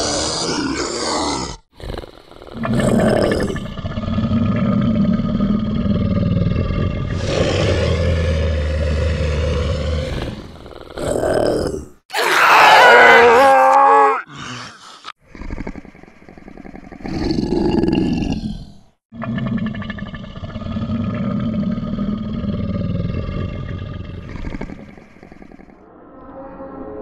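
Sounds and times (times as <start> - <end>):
zombie growls and groans: 0.0 - 26.0.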